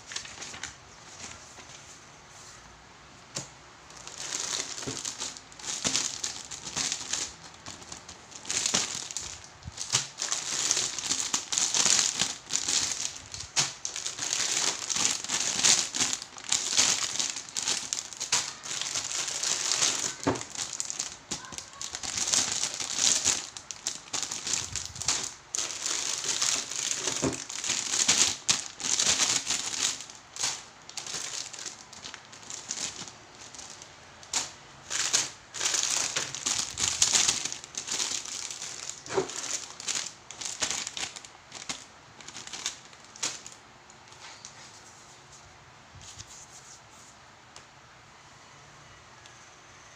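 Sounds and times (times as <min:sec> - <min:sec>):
plastic bags crinkling: 0:00.0 - 0:01.8, 0:03.4 - 0:44.6.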